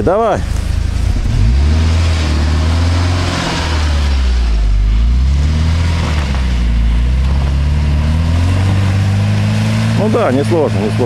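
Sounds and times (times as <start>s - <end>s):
tyres churning through mud: 0.0s - 11.0s
engine pulling under load: 0.4s - 11.0s.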